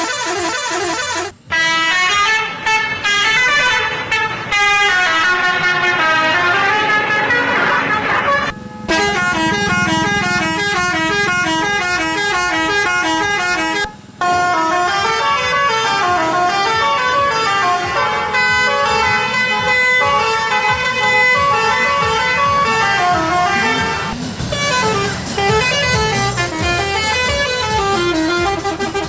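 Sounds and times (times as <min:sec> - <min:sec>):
musical horn playing a tune: 0:00.0 - 0:29.0.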